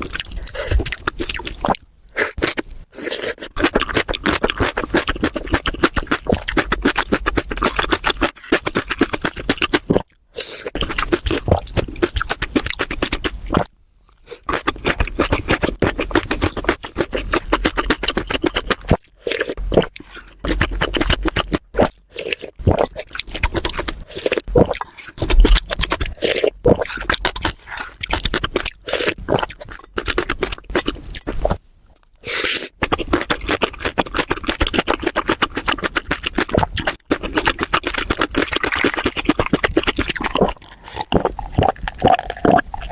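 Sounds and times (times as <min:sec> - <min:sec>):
crunchy chewing: 0:00.0 - 0:42.9.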